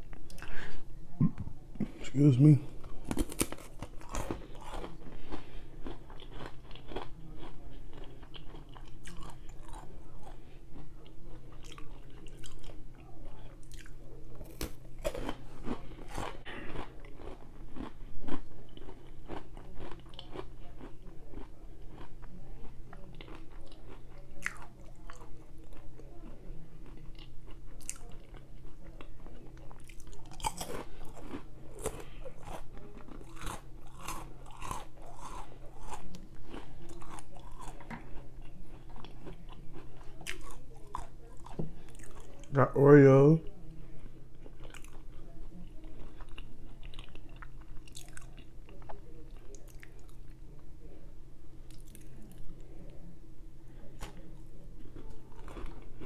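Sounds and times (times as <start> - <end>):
faint steady hum: 0.0 - 56.0
crunching and chewing pretzel: 1.8 - 42.6, 43.5 - 50.7, 51.5 - 53.0, 53.7 - 56.0.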